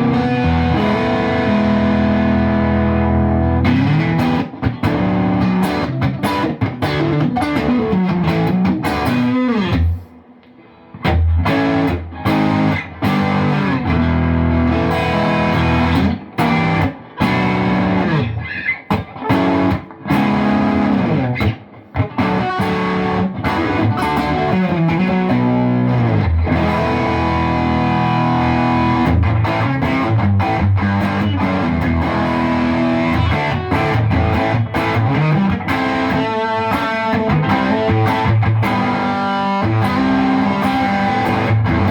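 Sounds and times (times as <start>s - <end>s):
overdriven electric guitar: 0.0s - 41.9s.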